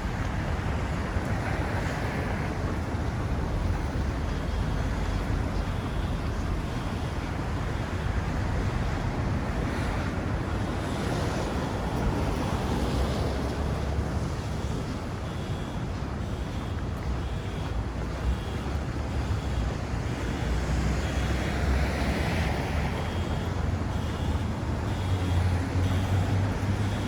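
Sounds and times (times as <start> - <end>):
low rumble of traffic: 0.0 - 27.0.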